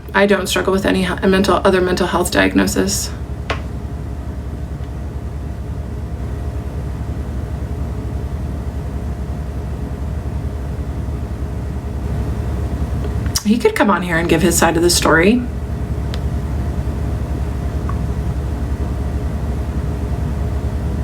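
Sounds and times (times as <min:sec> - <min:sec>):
faint steady hum: 0:00.0 - 0:21.0
steady low rumble: 0:00.0 - 0:21.0.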